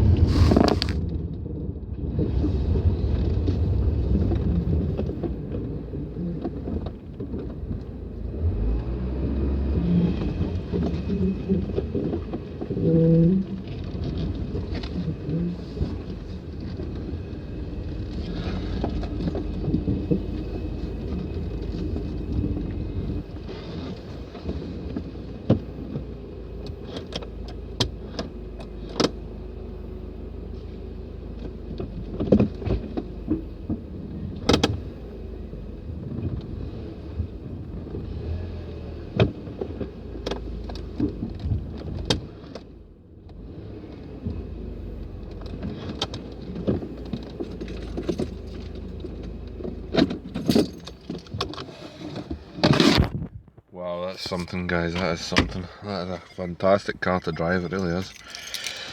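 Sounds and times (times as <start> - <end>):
engine and road rumble: 0.0 - 58.9.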